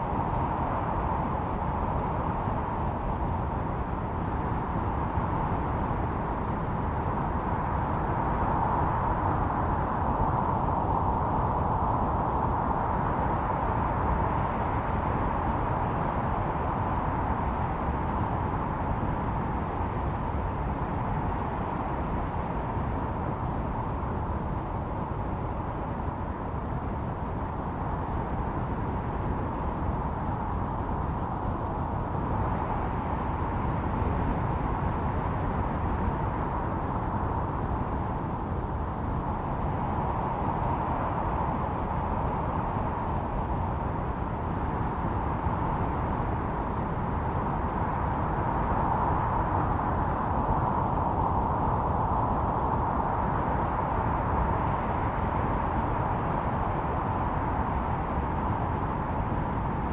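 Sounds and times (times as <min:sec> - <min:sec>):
blizzard wind howling: 0:00.0 - 0:59.9.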